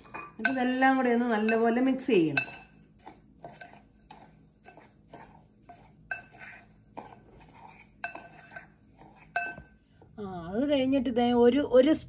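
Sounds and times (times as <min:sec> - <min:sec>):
spoon clinking against glass bowl: 0:00.0 - 0:09.8.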